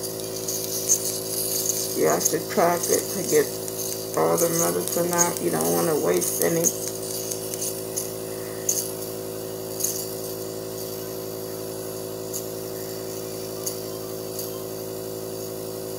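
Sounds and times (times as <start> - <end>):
nebulizer compressor hum: 0.0 - 15.9.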